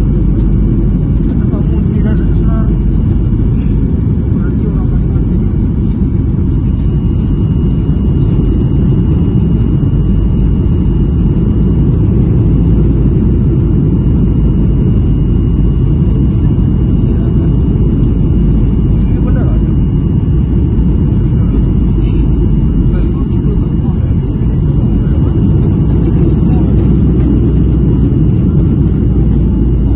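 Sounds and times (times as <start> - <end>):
jet engine cabin rumble: 0.0 - 29.9.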